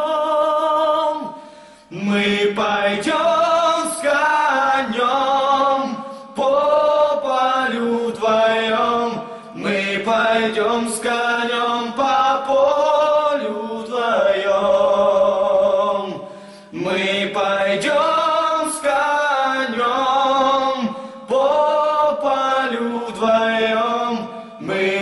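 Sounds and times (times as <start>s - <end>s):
men singing a cappella harmony: 0.0s - 25.0s.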